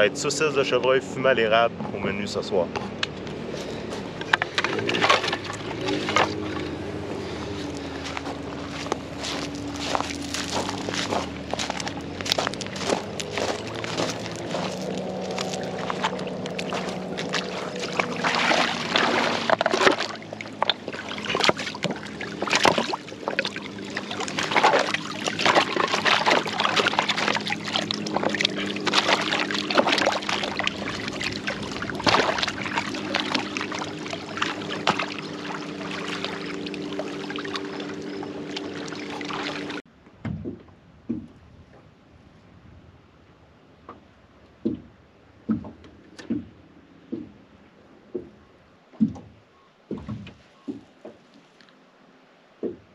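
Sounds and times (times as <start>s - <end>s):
boat motor running: 0.0s - 39.8s, 44.6s - 51.2s
water slapping against hull: 2.8s - 41.8s, 43.8s - 51.8s.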